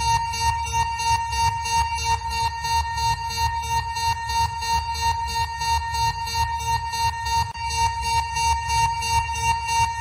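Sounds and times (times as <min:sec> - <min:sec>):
steady high alarm tone: 0:00.0 - 0:10.0.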